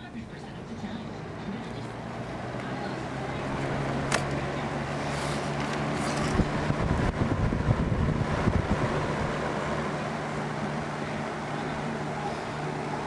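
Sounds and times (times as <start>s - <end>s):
electric fan running: 0.0s - 13.0s
low rumbling: 1.1s - 13.0s.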